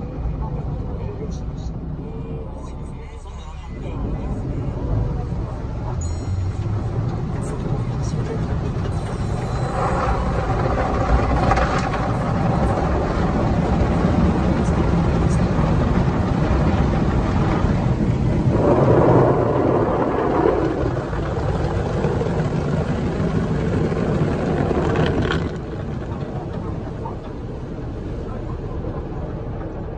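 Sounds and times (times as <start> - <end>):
car wash machine rumble: 0.0 - 29.9.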